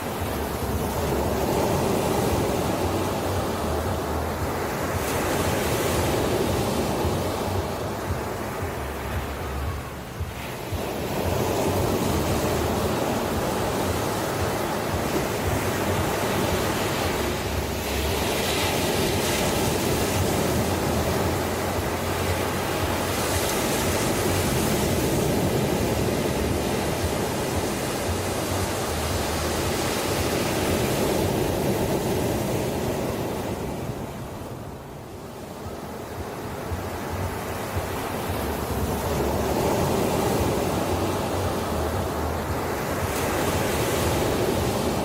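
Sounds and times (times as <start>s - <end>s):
ocean surf: 0.0s - 45.0s.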